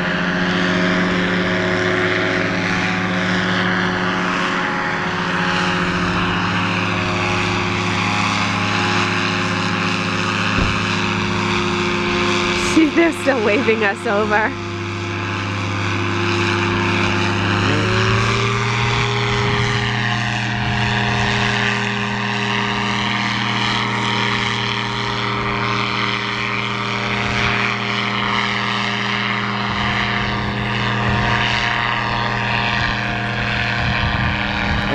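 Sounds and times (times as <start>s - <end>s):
engine and propeller running: 0.0s - 34.9s.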